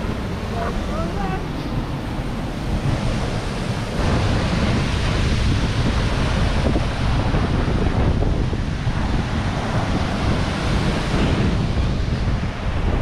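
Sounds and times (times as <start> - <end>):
creek and waterfall rushing: 0.0 - 13.0
wind buffeting microphone: 0.0 - 13.0.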